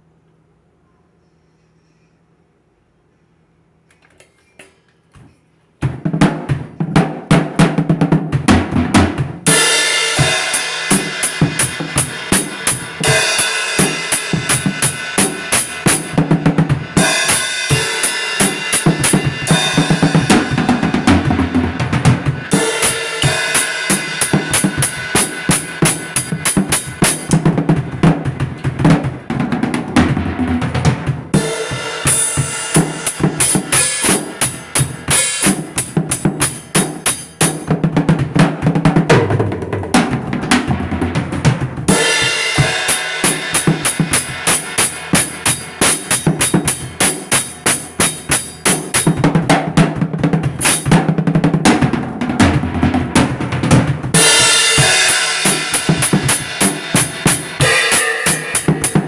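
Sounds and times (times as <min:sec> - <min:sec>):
drum kit beat music: 0:05.8 - 0:59.0.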